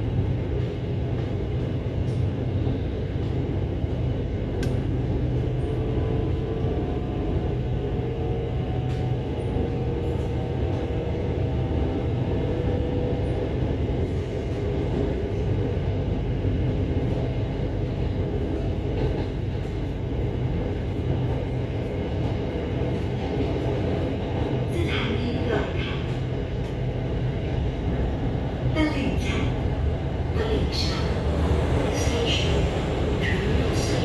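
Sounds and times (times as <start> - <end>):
electric train rumbling on track: 0.0 - 34.0.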